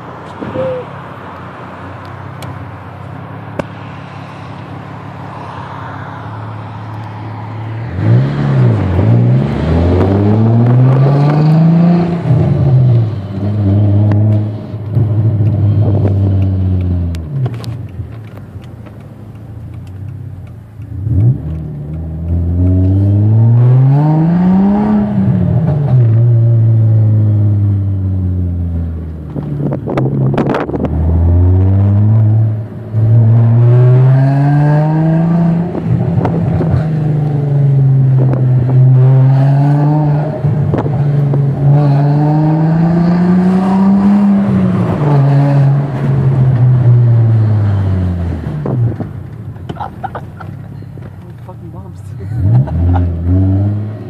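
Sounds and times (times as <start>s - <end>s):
car engine accelerating: 5.7s - 54.0s.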